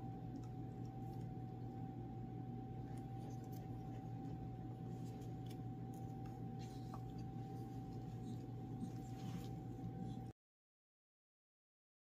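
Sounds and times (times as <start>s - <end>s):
room hum with thin tone: 0.0s - 10.4s.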